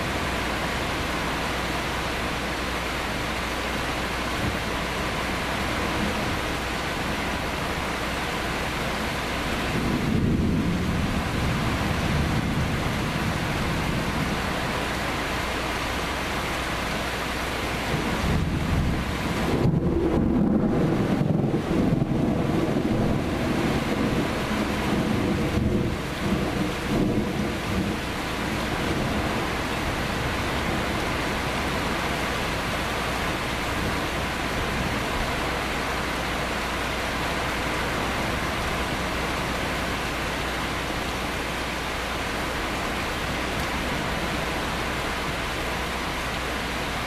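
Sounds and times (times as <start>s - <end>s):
heavy rain: 0.0s - 47.0s
thunder rumbling: 4.3s - 14.9s, 17.8s - 45.8s.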